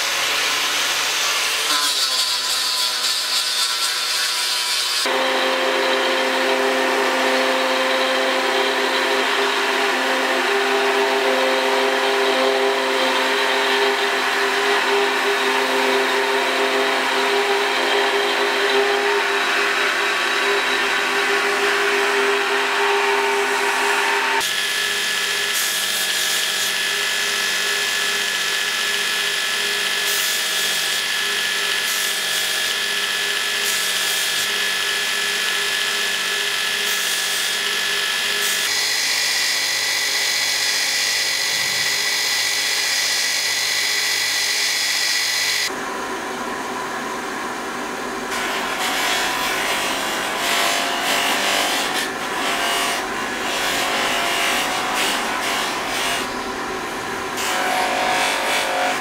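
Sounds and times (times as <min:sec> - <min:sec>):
belt grinder grinding: 0:00.0 - 0:45.7, 0:48.3 - 0:56.6
bench grinder running: 0:00.0 - 0:59.0.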